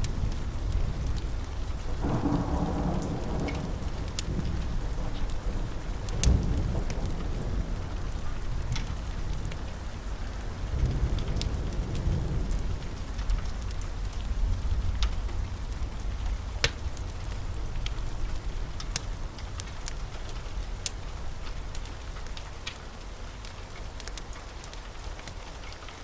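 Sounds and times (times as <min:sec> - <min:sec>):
low rolling thunder: 0:00.0 - 0:22.2
steady rain: 0:00.0 - 0:26.0
wood fire crackling: 0:00.0 - 0:26.0.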